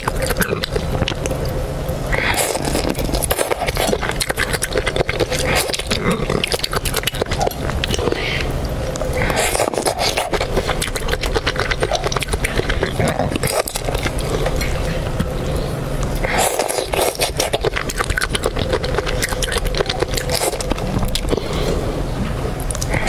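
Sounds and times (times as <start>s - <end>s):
shrimp shell crackling: 0.0s - 15.4s, 16.2s - 21.6s
wet chewing and sucking: 0.0s - 23.0s.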